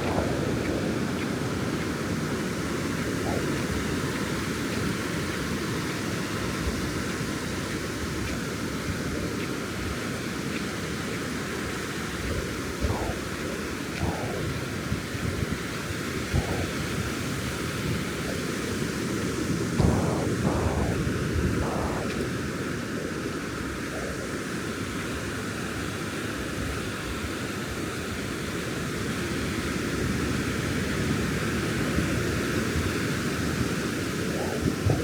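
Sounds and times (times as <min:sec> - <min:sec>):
ocean surf breaking on beach: 0:00.0 - 0:35.0.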